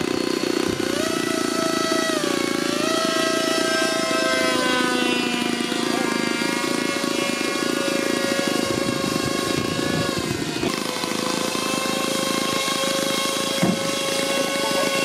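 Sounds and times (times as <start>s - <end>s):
electric motors and propellers whining: 0.0s - 15.0s.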